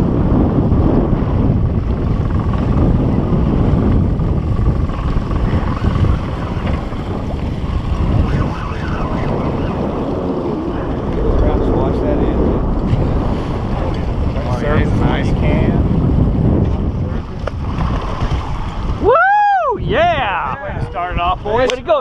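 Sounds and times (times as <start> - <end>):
choppy sea water washing: 0.0 - 21.5
wind buffeting microphone: 0.0 - 22.0.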